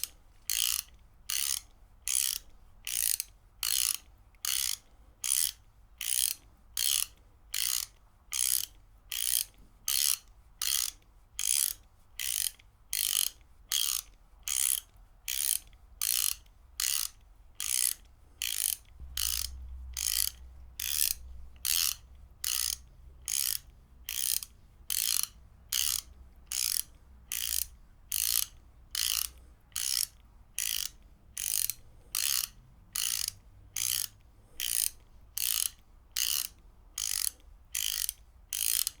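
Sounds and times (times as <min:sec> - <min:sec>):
ratchet wrench clicking: 0:00.0 - 0:39.0.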